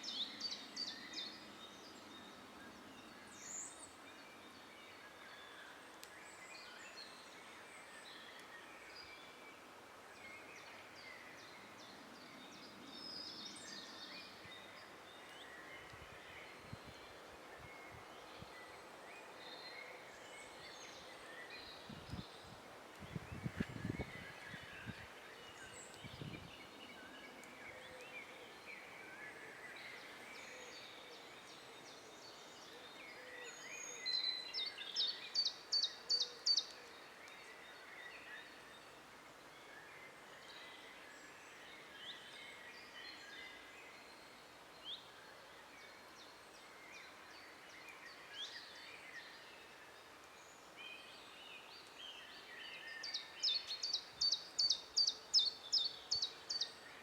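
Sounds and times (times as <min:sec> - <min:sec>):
woodland birds singing: 0:00.0 - 0:57.0.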